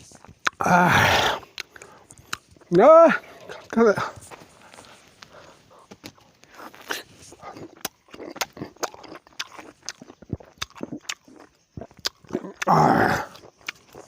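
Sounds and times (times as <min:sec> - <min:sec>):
person biting and chewing: 0:00.0 - 0:02.7, 0:04.7 - 0:14.0.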